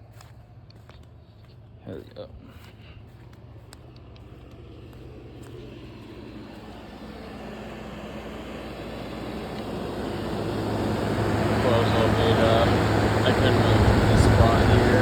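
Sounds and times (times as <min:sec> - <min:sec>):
air conditioner running: 0:01.2 - 0:15.0.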